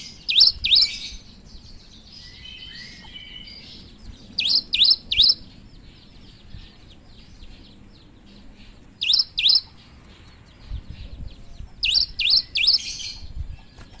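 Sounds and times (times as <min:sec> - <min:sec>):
bird song sharp downward notes: 0:00.0 - 0:14.0
soft bird chatter: 0:00.0 - 0:14.0.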